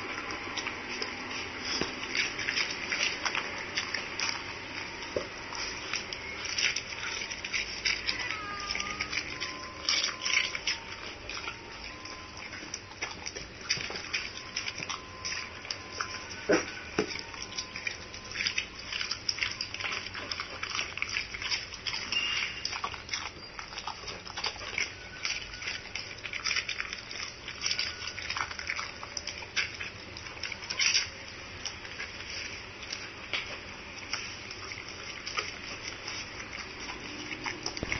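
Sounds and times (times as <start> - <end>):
dog chewing and crunching fish: 0.0 - 37.9.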